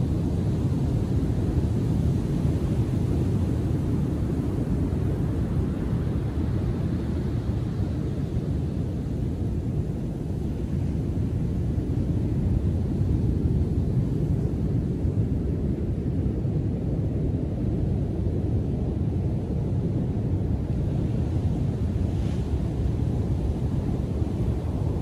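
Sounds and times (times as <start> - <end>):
heavy ocean surf rumbling: 0.0 - 25.0.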